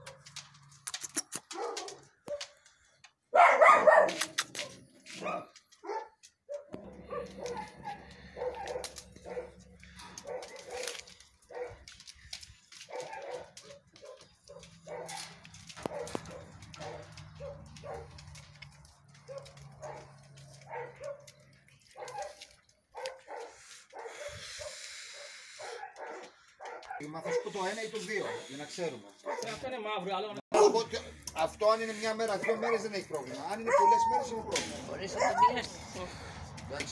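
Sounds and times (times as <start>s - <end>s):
dogs barking: 0.0s - 0.5s, 1.4s - 2.6s, 3.3s - 12.1s, 12.7s - 29.7s, 30.5s - 31.0s, 32.3s - 35.8s.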